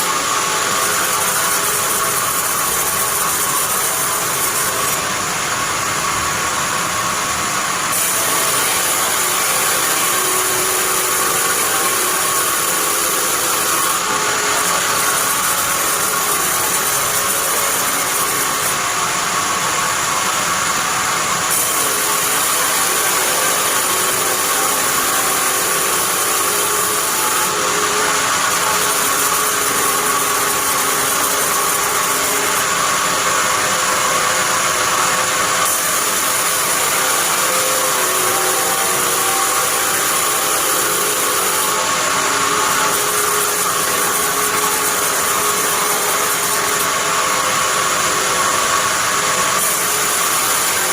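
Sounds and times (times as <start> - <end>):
band sawmill running: 0.0 - 50.9.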